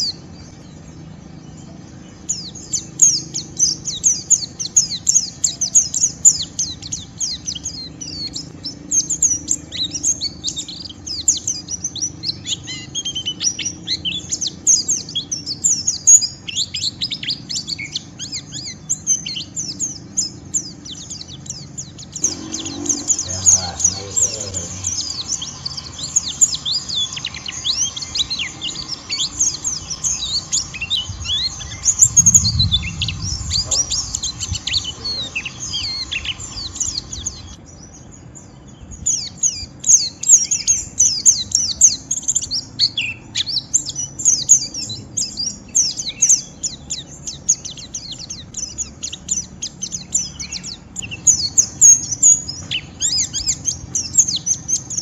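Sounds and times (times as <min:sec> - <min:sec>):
bird chattering high chirps: 0:02.2 - 0:37.6, 0:39.0 - 0:55.0.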